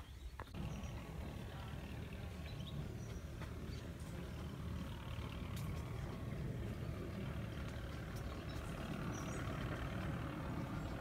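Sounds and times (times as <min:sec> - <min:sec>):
faint low rumble: 0:00.5 - 0:11.0.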